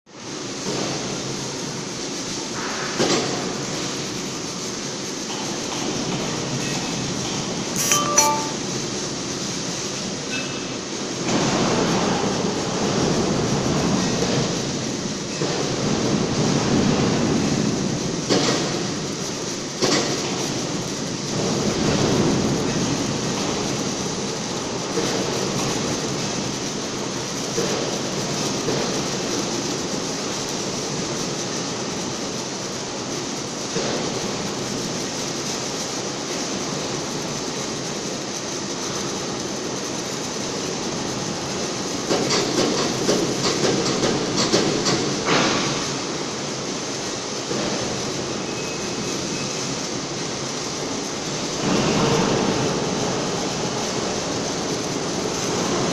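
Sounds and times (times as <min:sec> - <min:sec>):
welding machine hiss and rumble: 0:00.1 - 0:55.9.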